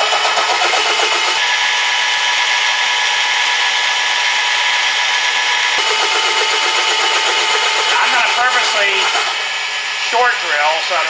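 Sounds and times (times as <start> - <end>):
drill bit cutting steel: 0.0 - 11.0
drill motor whine: 0.0 - 11.0.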